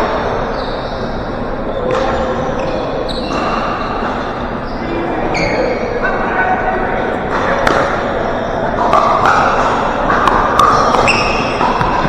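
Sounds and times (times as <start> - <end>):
players chattering: 0.0 - 12.0.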